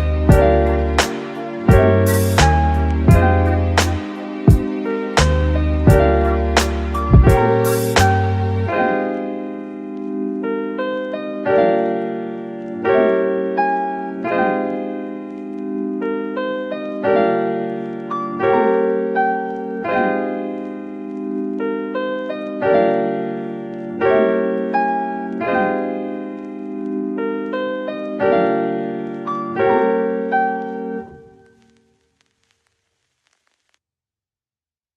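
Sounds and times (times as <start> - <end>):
electric piano chords: 0.0 - 31.8.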